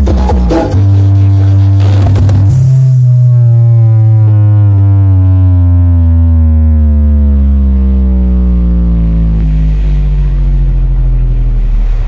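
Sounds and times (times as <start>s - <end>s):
deep droning bass tone: 0.0s - 12.0s.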